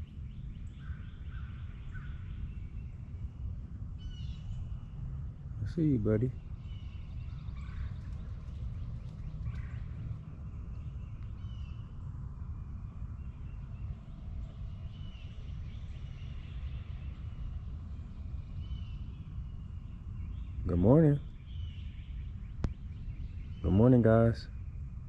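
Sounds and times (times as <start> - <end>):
low rumble: 0.0 - 23.8
faint bird chirps: 0.0 - 25.0.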